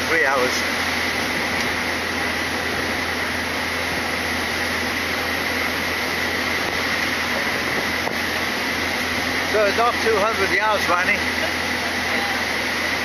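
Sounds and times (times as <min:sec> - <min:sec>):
bus interior running noise: 0:00.0 - 0:13.0
high whine: 0:00.0 - 0:13.0.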